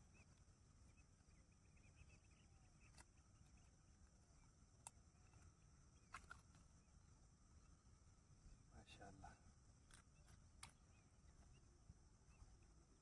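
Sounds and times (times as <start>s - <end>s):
faint chirping: 0.0s - 13.0s.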